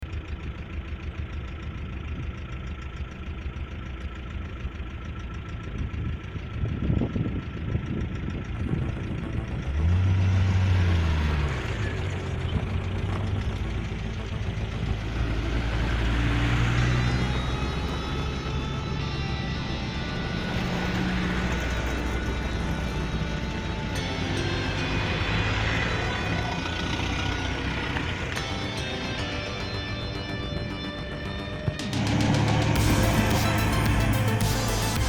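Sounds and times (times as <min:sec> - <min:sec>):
vehicle engine revving: 0:05.2 - 0:35.0.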